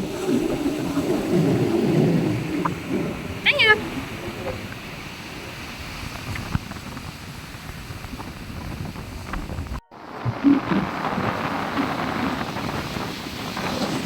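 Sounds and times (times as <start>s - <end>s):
ocean surf on a beach: 0.0s - 14.0s
wind buffeting microphone: 0.0s - 14.0s.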